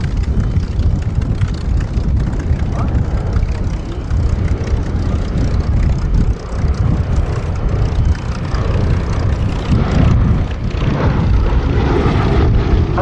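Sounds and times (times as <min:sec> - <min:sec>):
propeller plane engines rumbling: 0:00.0 - 0:13.0.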